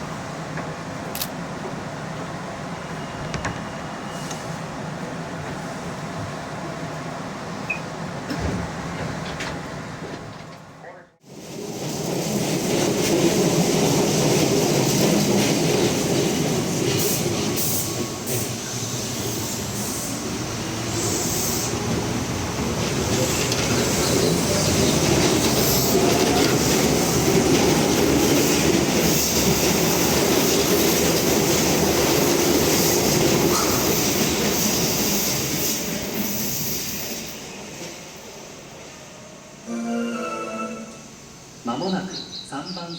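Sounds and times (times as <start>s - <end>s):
train wheels rumbling on track: 0.0s - 39.6s.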